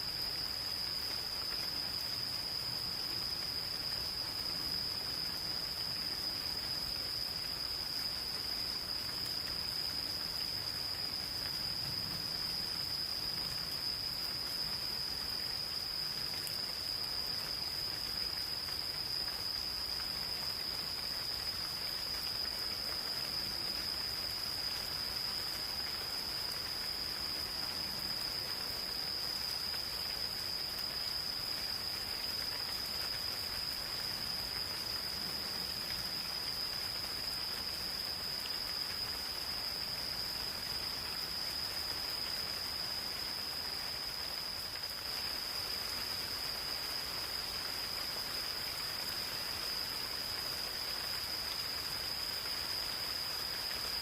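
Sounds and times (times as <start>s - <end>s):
gentle rain: 0.0s - 54.0s
insects trilling: 0.0s - 54.0s.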